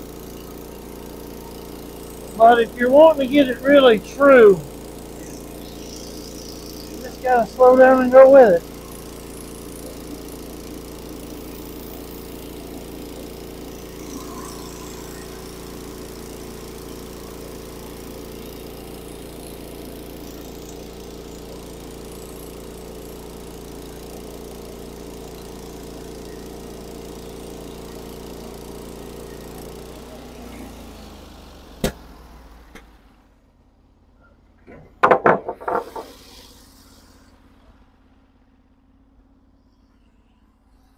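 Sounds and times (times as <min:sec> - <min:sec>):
bandsaw mill sawing log: 0:00.0 - 0:31.2, 0:35.0 - 0:37.3.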